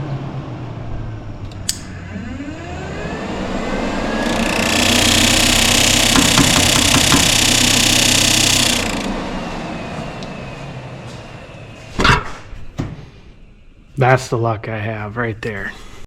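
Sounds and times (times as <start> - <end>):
electric fan rushing air: 0.0 - 14.6.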